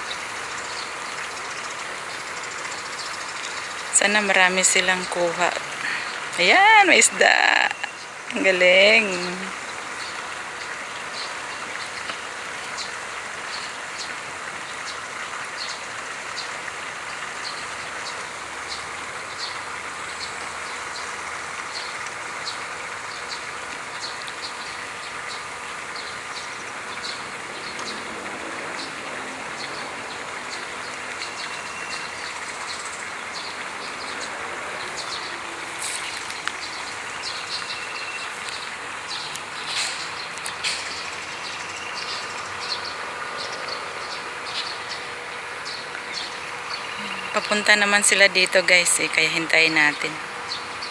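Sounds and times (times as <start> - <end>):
river rushing hiss: 0.0 - 50.9.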